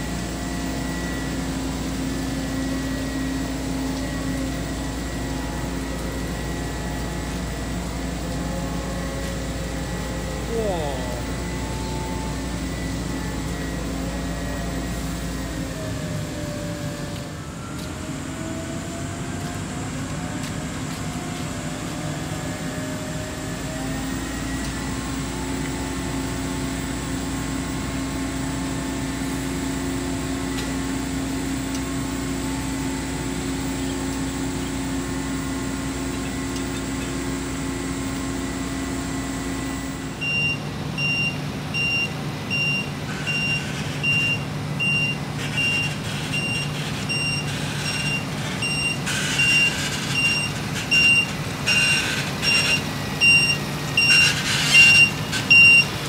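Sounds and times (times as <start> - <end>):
diesel machinery humming: 0.0 - 56.0.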